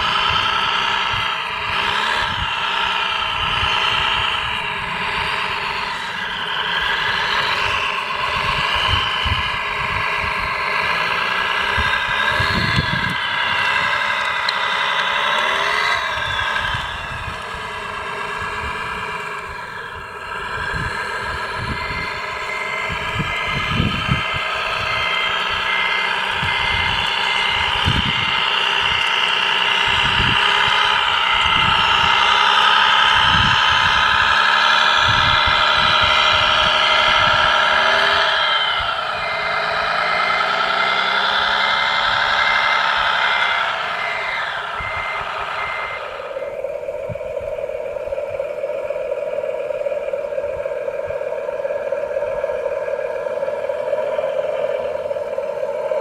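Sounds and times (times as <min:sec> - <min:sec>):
model dozer motor running: 0:00.0 - 0:56.0.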